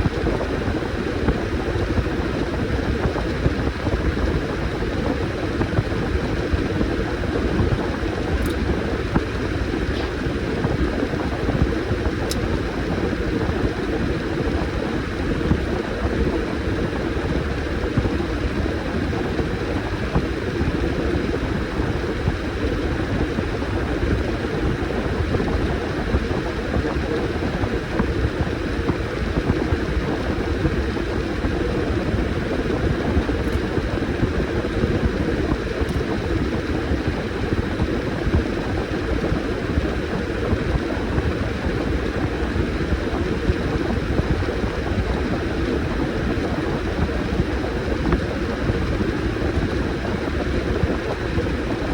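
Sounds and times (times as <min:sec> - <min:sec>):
washing machine drone: 0:00.0 - 0:51.9.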